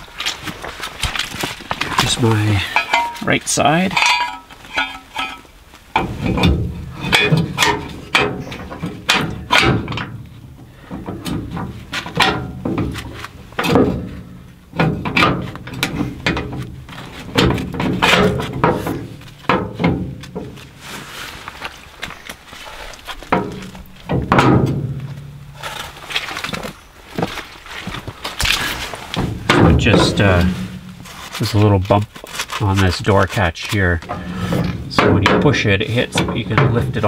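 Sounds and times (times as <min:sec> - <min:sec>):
metal clanks and knocks: 0:01.1 - 0:20.8, 0:22.7 - 0:32.1, 0:33.8 - 0:37.0.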